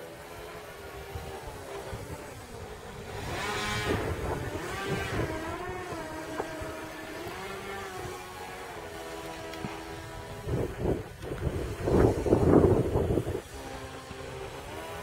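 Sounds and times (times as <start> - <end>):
model plane propellers buzzing: 0.0 - 15.0.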